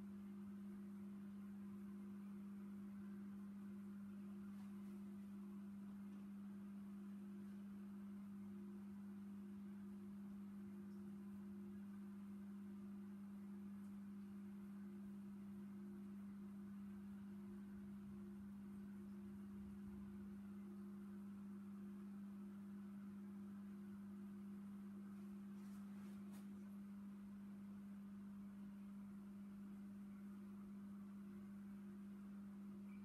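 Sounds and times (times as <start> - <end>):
aquarium equipment humming: 0.0 - 33.0.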